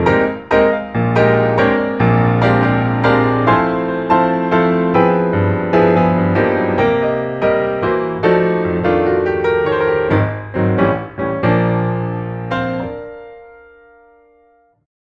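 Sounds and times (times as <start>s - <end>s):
piano music: 0.0s - 14.8s.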